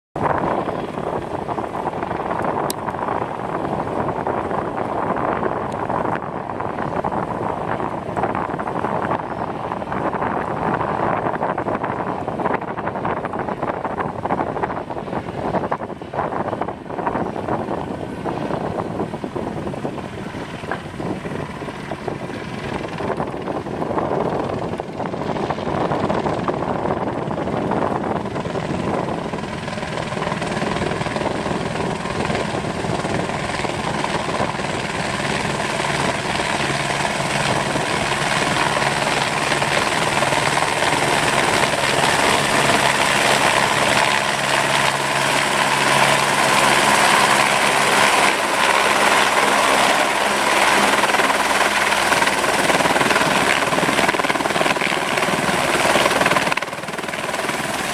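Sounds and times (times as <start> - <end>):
helicopter running: 0.2 - 57.9.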